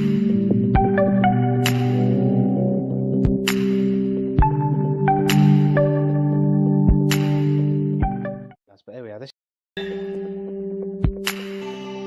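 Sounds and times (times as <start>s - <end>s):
ambient music with soft beat: 0.0s - 8.6s, 9.8s - 12.0s.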